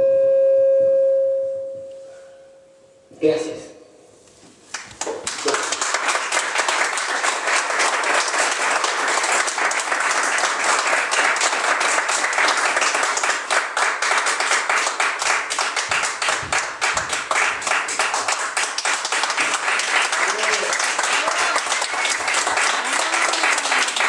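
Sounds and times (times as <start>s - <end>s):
audience applauding: 4.7s - 24.0s.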